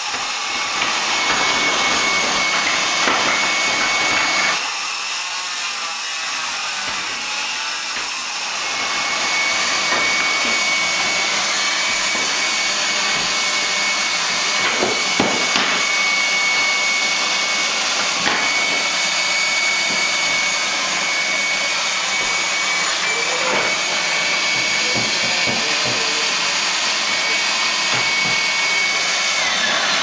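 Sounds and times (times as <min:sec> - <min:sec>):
vacuum cleaner motor whining: 0:00.0 - 0:30.0.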